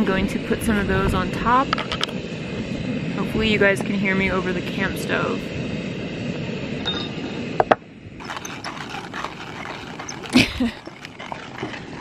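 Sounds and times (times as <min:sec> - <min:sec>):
camp stove burner hissing: 0:00.0 - 0:06.8, 0:07.4 - 0:12.0.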